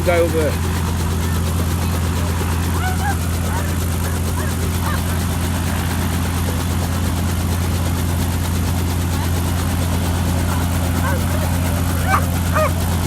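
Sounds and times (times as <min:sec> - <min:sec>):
helicopter engine and rotors droning: 0:00.0 - 0:13.0.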